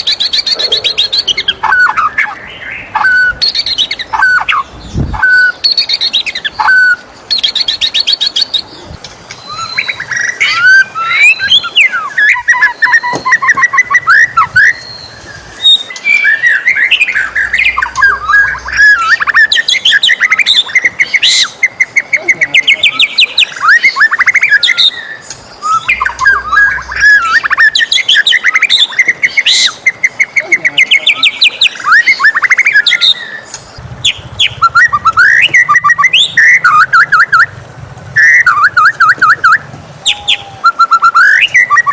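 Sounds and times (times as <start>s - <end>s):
bird singing whistles and trills: 0.0s - 37.6s, 38.2s - 41.9s.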